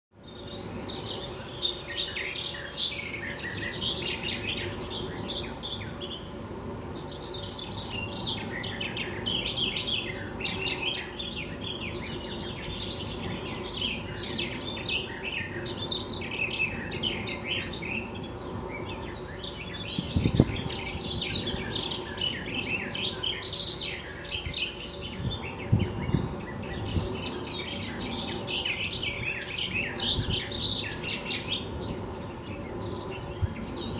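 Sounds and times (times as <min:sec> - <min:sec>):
faint steady hum: 0:00.2 - 0:33.9
songbirds singing and chirping: 0:00.2 - 0:33.9.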